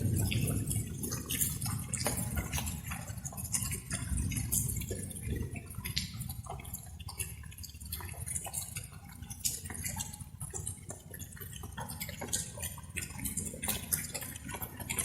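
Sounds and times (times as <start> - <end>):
low water sound: 0.0 - 15.0
raindrops dripping: 0.0 - 15.0.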